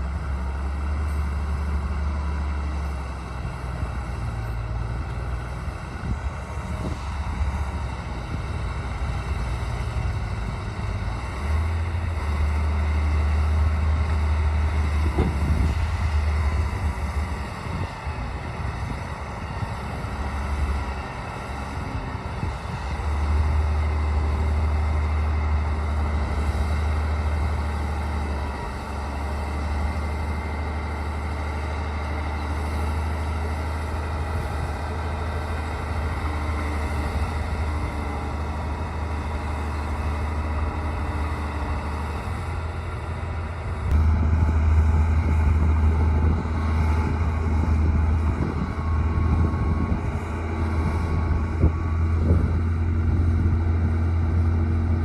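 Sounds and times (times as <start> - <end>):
bulldozer diesel engine rumbling: 0.0 - 55.0.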